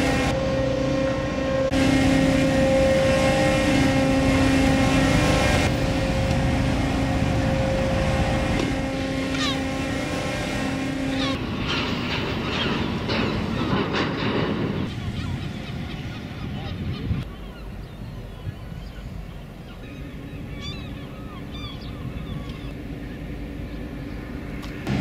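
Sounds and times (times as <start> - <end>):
diesel engines droning: 0.0 - 25.0.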